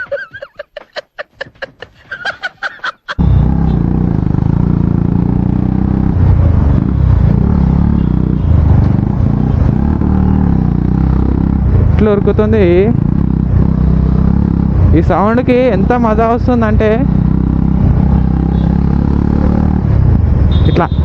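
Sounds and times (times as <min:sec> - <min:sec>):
motorcycle engine running: 0:03.2 - 0:20.7.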